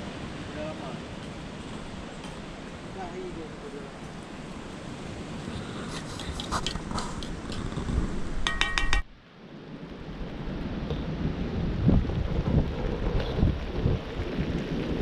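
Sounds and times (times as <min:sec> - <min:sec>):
wind hiss: 0:00.0 - 0:15.0.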